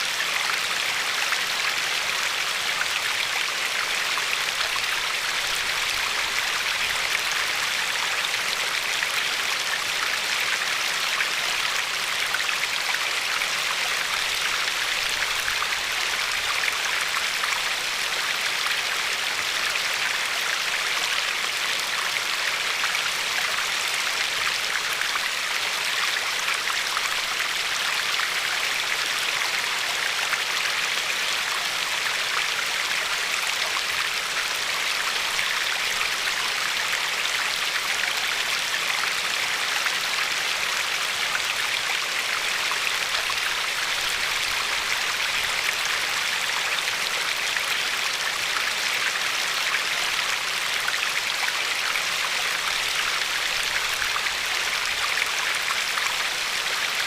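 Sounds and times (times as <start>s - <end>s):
river water flowing over pebbles: 0.0s - 57.0s.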